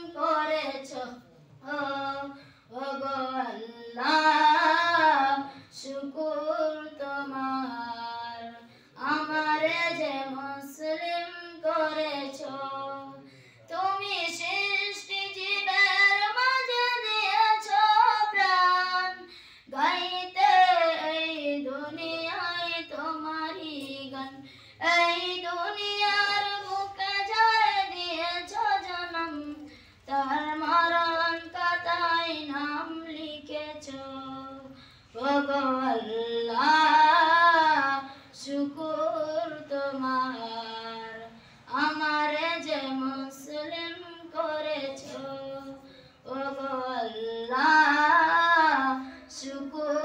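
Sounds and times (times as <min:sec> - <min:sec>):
boy singing unaccompanied: 0:00.0 - 0:50.0.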